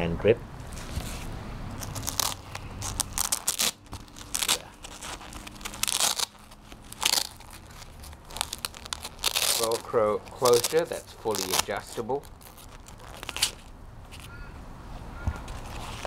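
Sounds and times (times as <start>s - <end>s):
fingers rubbing leather: 0.8s - 13.7s.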